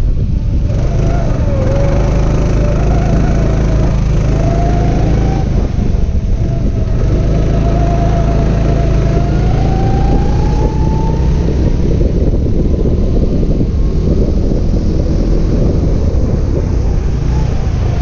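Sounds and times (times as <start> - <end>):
go-kart engine running: 0.0 - 18.0
heavy low rumble: 0.0 - 18.0.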